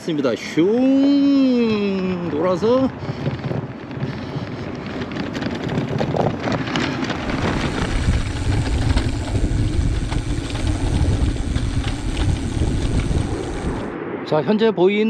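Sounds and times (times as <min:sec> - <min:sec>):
tyres rolling on rough asphalt: 0:00.0 - 0:13.9
wind buffeting microphone: 0:00.0 - 0:14.4.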